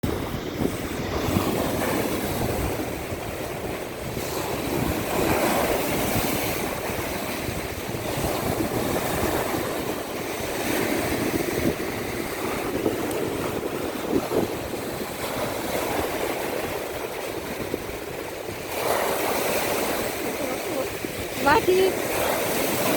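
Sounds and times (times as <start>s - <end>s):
waves washing onto shore: 0.0s - 22.9s
wind on microphone: 0.0s - 22.9s.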